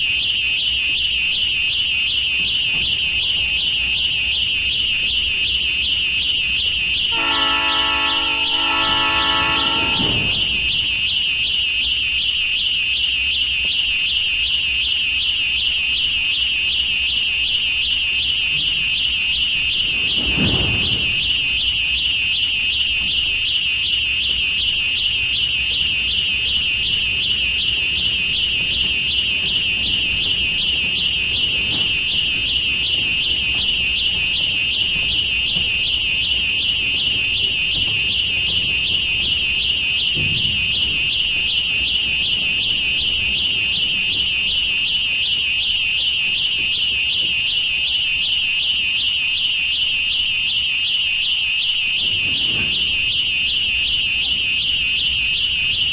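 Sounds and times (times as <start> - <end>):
railroad crossing bell ringing: 0.0 - 49.4, 51.1 - 55.9.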